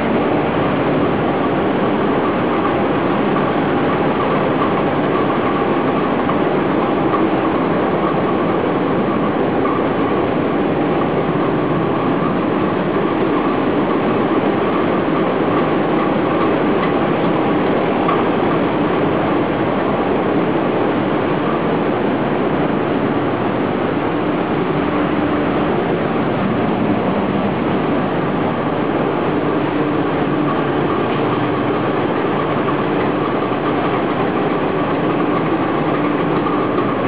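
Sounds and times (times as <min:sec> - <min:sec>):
marine diesel engines running: 0:00.0 - 0:37.0.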